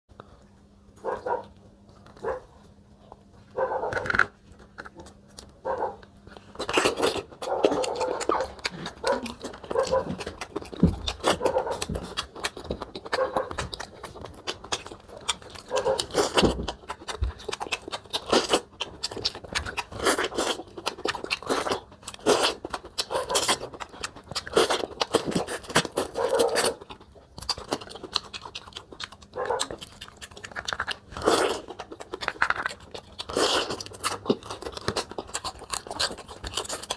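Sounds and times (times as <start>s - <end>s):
wet chewing and smacking: 0.1s - 36.9s.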